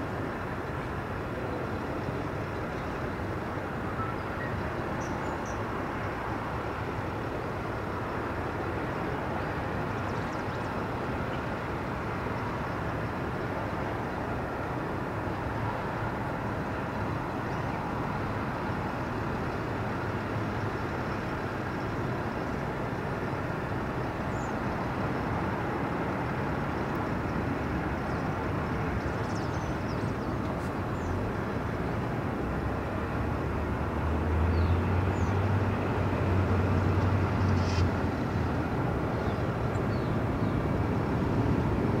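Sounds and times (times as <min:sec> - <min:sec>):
outdoor background rumble: 0:00.0 - 0:42.0.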